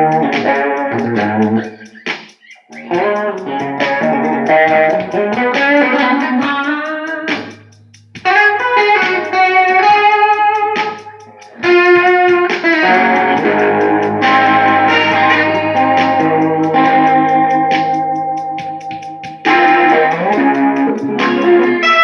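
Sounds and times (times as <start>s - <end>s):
blues guitar lead: 0.0s - 22.0s.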